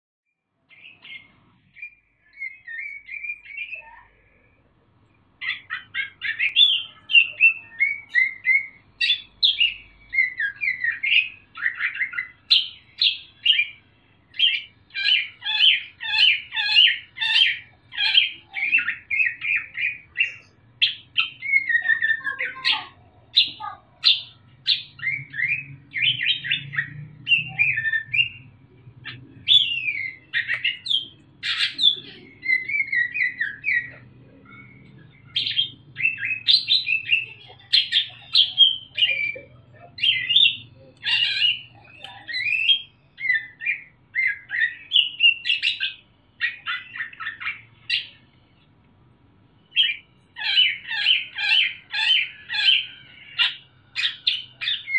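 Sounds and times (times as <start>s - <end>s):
songbird singing rapid chattering: 0.6s - 4.5s, 5.1s - 48.8s, 49.6s - 54.9s.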